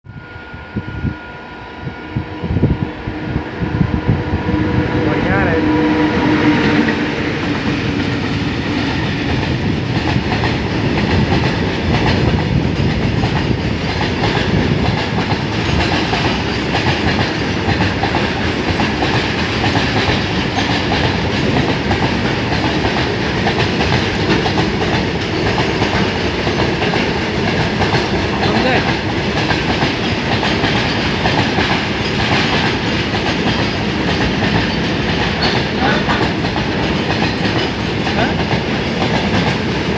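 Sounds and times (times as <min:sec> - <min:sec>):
train wheels clattering over track: 0:04.6 - 0:39.9.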